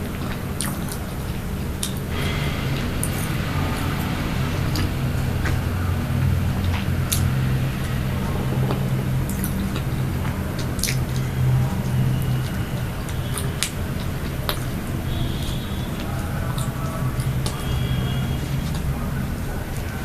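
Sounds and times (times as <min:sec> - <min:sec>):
low hum: 0:00.0 - 0:20.0
person chewing soft pastry: 0:00.1 - 0:19.5.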